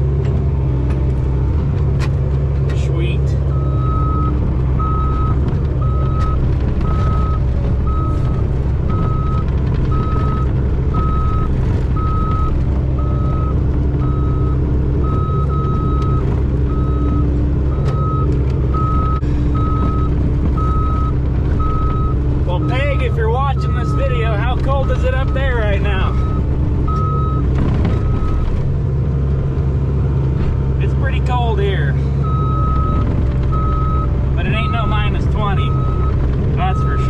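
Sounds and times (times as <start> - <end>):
excavator engine running: 0.0 - 37.0
excavator travel alarm beeping: 3.0 - 28.6, 30.8 - 37.0.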